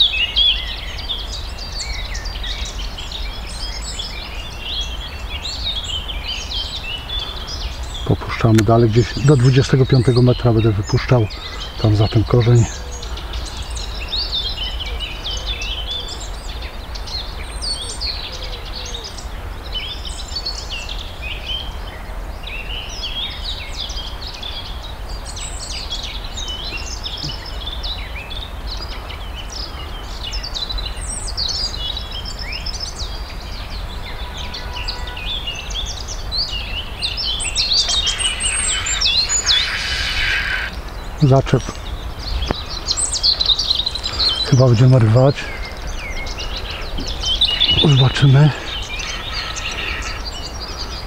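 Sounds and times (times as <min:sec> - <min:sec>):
songbirds chirping and trilling: 0:00.0 - 0:51.0.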